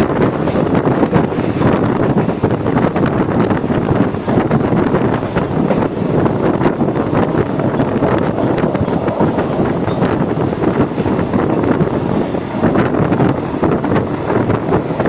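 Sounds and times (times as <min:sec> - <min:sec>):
train wheels clattering on rails: 0:00.0 - 0:15.0
wind buffeting microphone: 0:00.0 - 0:15.0.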